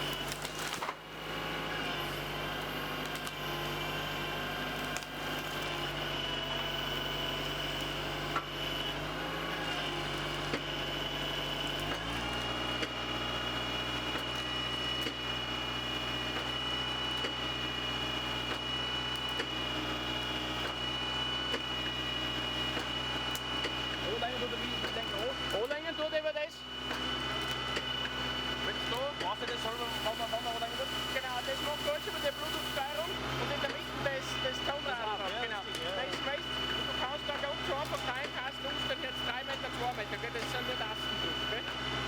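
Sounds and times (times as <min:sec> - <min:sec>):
hydraulic high whine: 0:00.0 - 0:42.0
tractor engine running: 0:00.0 - 0:42.0.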